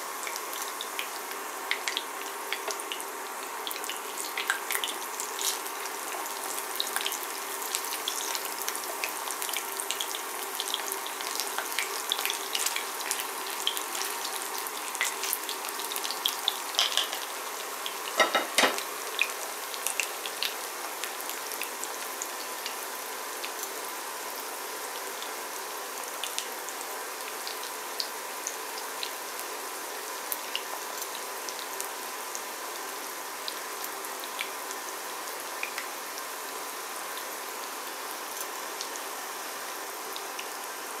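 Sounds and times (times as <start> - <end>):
chicken sizzling in oil: 0.0 - 41.0.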